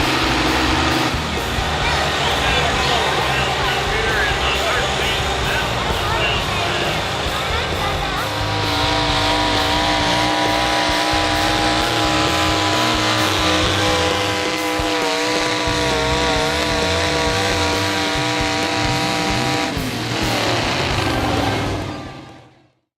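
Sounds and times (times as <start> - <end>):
tractor engine at high revs: 0.0 - 22.6.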